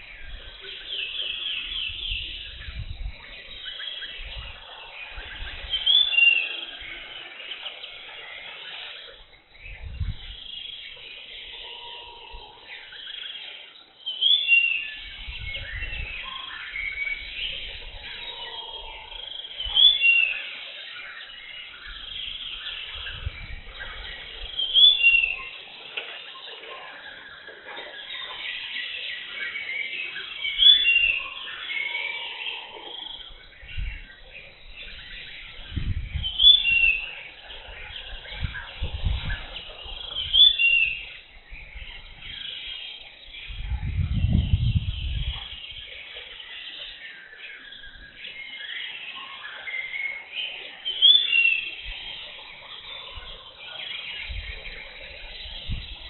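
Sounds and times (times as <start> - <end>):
birds chirping and calling: 0.0 - 56.0
jungle insects humming: 0.0 - 56.0.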